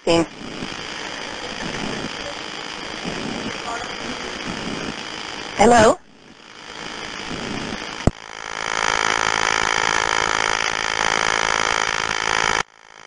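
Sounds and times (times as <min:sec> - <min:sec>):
telephone line buzzing hum: 0:00.0 - 0:13.0.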